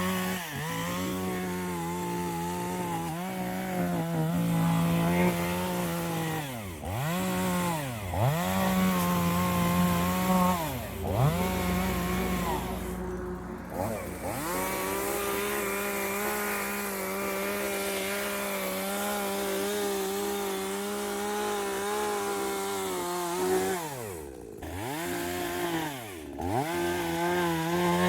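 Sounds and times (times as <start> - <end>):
small engine revving: 0.0 - 28.0.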